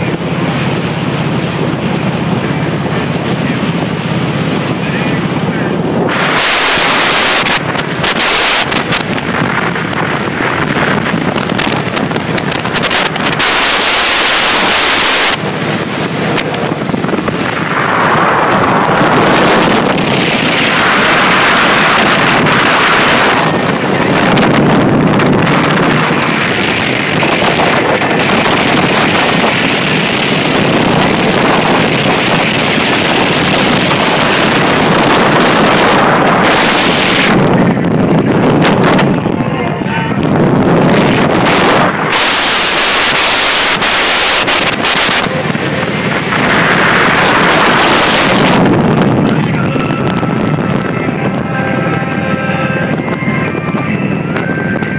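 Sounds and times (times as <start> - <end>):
road noise: 0.0 - 54.9
wind buffeting microphone: 0.0 - 54.9.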